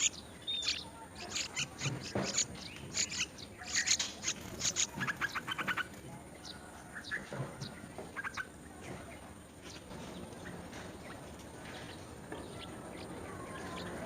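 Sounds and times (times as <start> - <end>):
birds chirping: 0.0 - 14.0
low background noise: 0.0 - 14.0.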